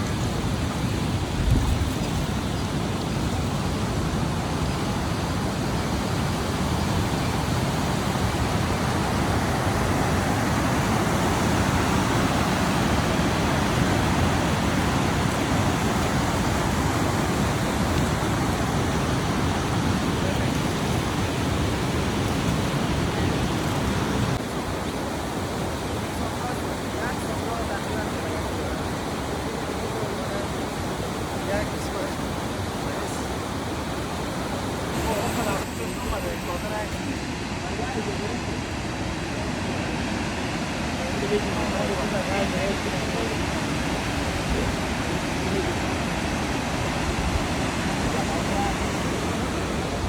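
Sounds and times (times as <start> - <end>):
fast-flowing water rushing: 0.0 - 50.0.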